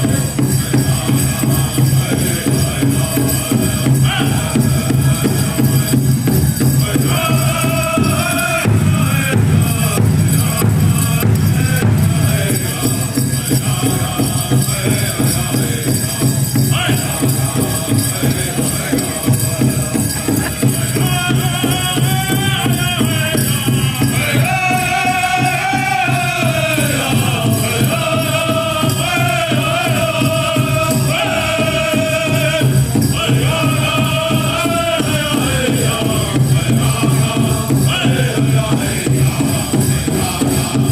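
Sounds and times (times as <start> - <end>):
big drum steady beat: 0.0 - 40.9
singers chanting high-pitched song: 0.0 - 40.9.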